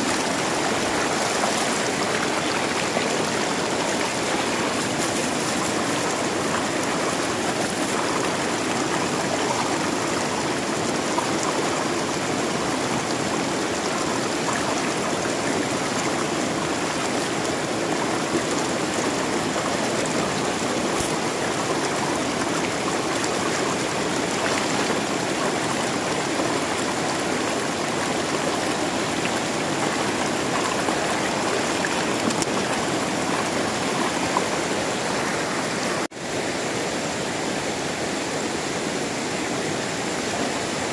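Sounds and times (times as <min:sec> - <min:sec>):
river rushing over stones: 0:00.0 - 0:40.9.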